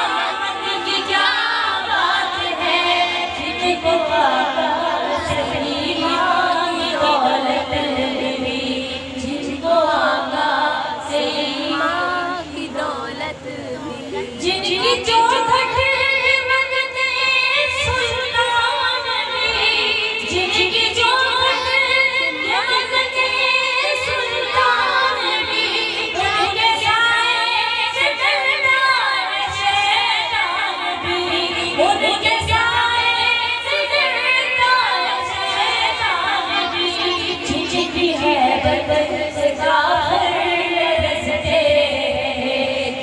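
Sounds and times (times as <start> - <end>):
woman singing into a microphone: 0.0 - 43.0.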